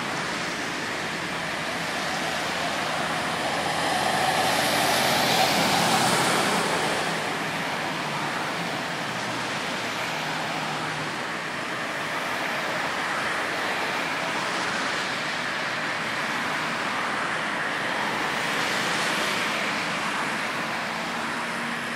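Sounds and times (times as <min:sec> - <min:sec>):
tyres hissing on road: 0:00.0 - 0:21.9.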